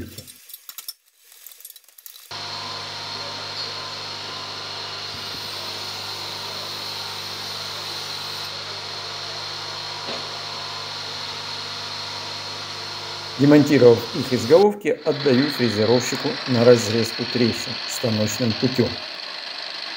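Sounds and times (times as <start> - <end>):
electric machine hum: 2.3 - 19.9.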